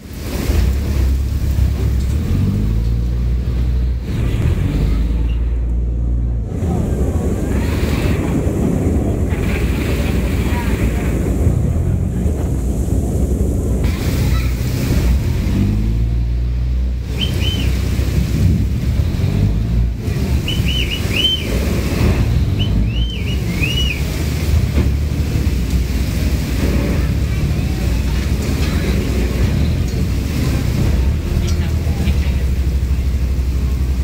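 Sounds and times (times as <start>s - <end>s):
choppy river water: 0.0s - 34.0s
rain: 0.0s - 34.0s
wind buffeting microphone: 0.0s - 34.0s.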